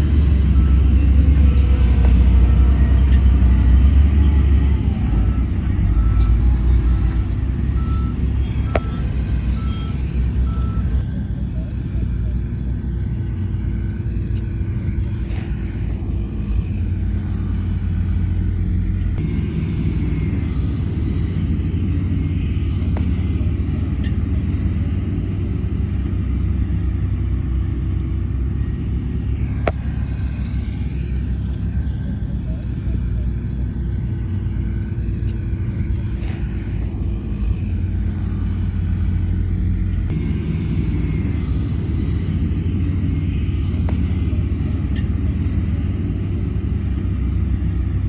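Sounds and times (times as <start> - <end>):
heavy diesel engine rumbling: 0.0 - 48.0.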